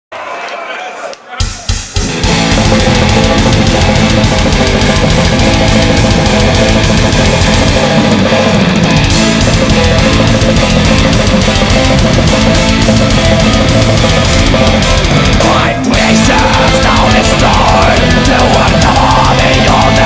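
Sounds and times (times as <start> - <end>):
distorted electric guitars: 1.4 - 20.0
fast dense drumming: 1.4 - 20.0.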